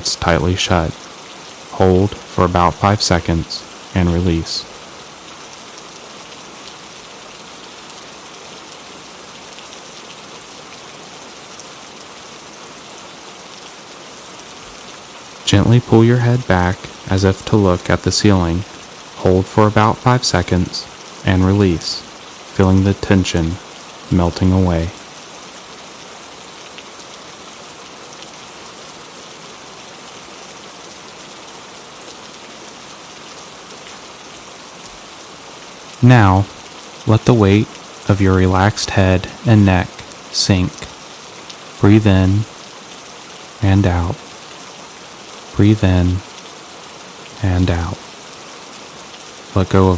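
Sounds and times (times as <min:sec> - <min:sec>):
gentle rain: 0:00.0 - 0:49.9.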